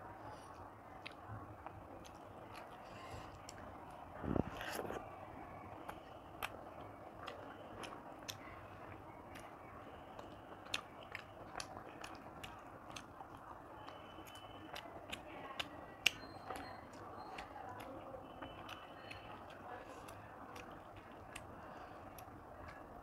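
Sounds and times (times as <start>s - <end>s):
person chewing food: 0.1s - 23.0s
mouth clicks and smacks: 0.5s - 5.1s, 5.7s - 23.0s.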